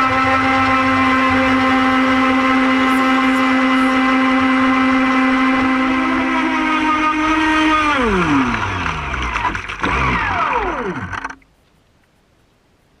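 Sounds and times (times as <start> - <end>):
electric motor whining: 0.0 - 11.3.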